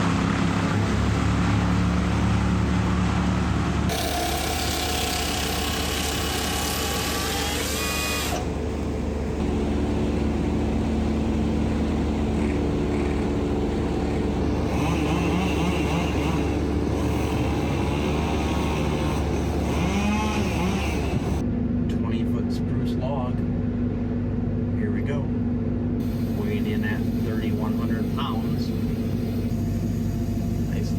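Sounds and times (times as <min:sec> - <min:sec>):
heavy machine engine running: 0:00.0 - 0:24.8, 0:25.4 - 0:30.9.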